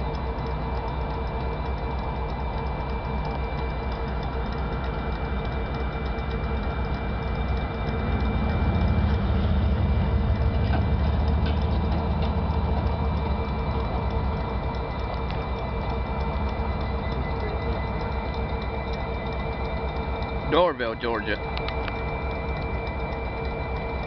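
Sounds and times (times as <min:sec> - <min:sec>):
deep engine rumble: 0:00.0 - 0:24.0
locomotive engines idling: 0:00.0 - 0:24.0
thin high whine: 0:00.0 - 0:24.0.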